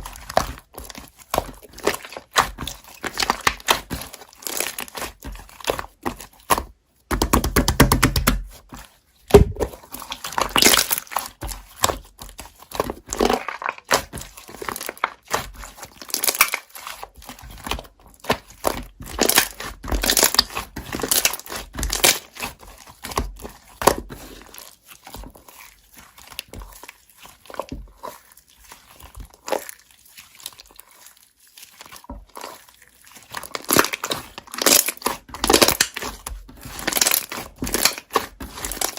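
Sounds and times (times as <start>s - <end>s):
slime crackling and squishing: 0.0s - 38.9s.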